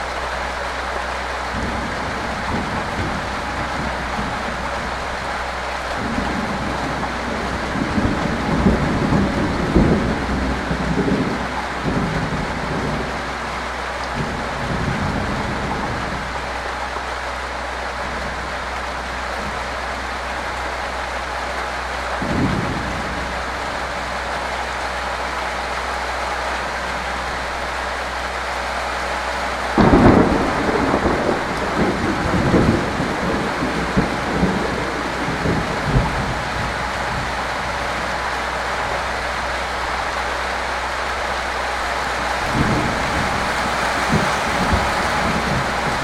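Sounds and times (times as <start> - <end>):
rain on metal roofs: 0.0 - 46.0.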